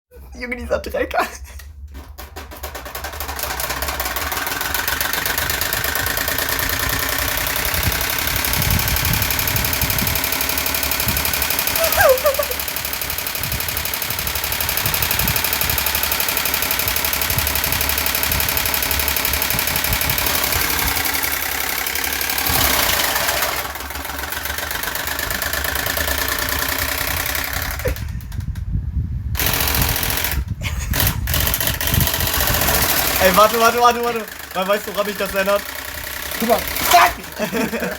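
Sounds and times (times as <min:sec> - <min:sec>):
electric fan knocking rumble: 0:01.0 - 0:37.9.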